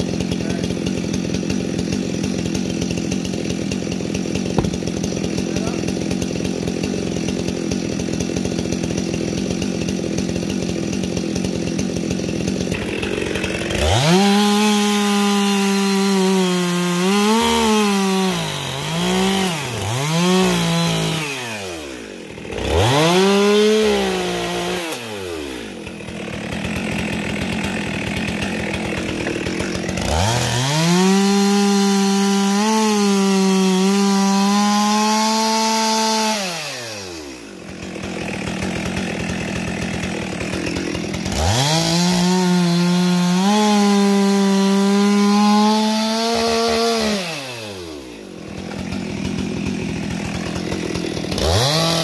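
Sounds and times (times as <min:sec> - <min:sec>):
chainsaw cutting logs: 0:00.0 - 0:52.0.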